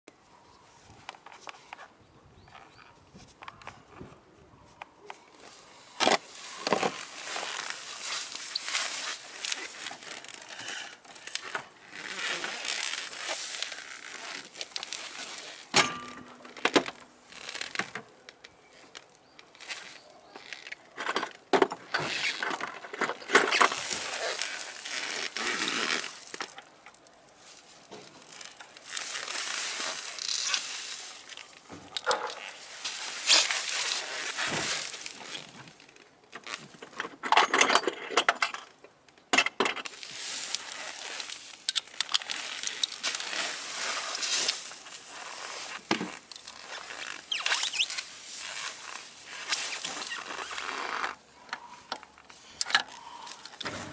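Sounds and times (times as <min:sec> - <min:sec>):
rustling handling noise: 0:00.6 - 0:37.7, 0:39.8 - 0:53.9.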